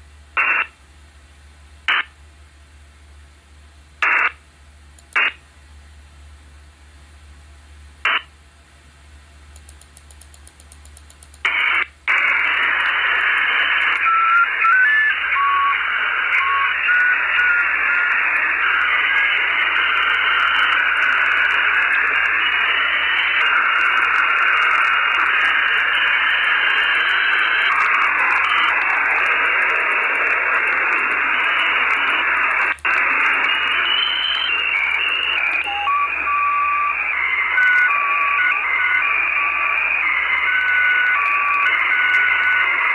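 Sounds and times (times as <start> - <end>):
radio static hiss: 0.4 - 0.8, 1.8 - 2.2, 4.0 - 4.4, 5.0 - 5.4, 8.0 - 8.3, 9.6 - 42.9.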